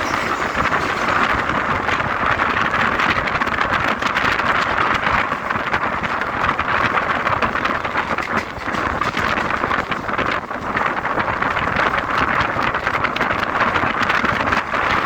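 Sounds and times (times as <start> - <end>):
train running on track: 0.0 - 15.0
wheels clicking on rails: 0.0 - 15.0
wind on microphone: 0.0 - 15.0.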